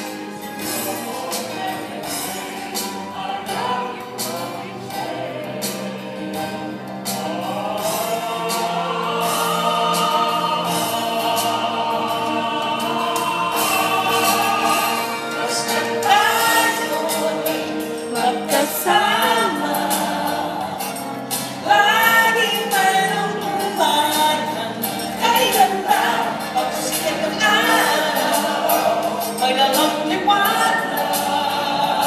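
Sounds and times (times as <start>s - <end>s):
mixed choir singing: 0.0s - 32.0s.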